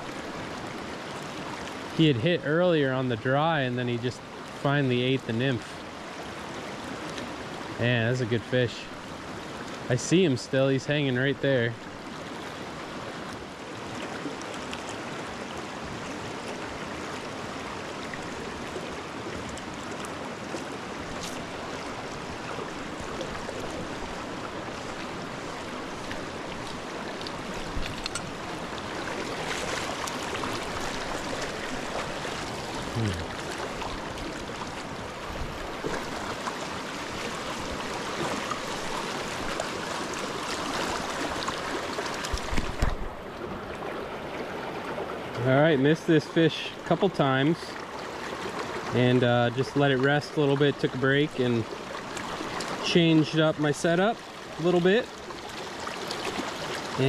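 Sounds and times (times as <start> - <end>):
creek rushing over stones: 0.0 - 57.0.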